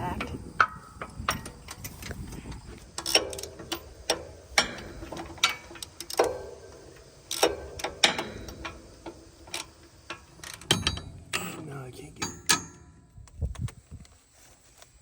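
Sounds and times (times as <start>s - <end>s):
metal tools clanking on metal: 0.0s - 13.1s.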